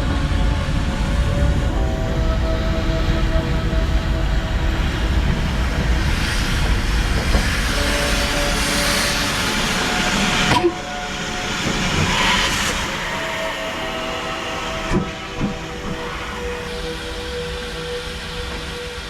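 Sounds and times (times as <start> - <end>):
steam hissing: 0.0 - 19.0
steam locomotive rumbling: 0.0 - 19.0.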